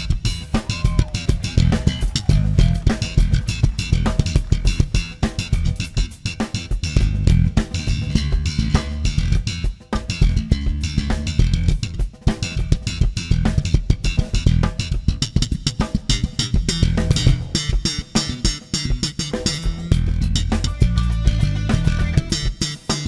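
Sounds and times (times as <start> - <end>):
drum kit: 0.0 - 23.0
electric bass playing: 0.0 - 23.0.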